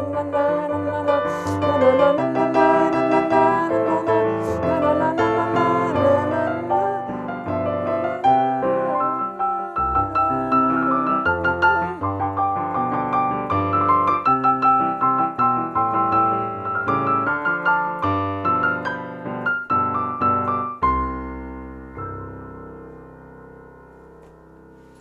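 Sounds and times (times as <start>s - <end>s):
piano playing lively melody: 0.0s - 25.0s.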